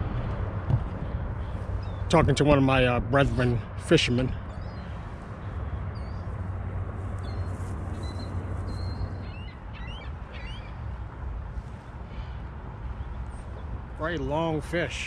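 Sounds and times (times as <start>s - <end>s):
steady low rumble: 0.0s - 14.8s
birds chirping: 0.7s - 14.6s.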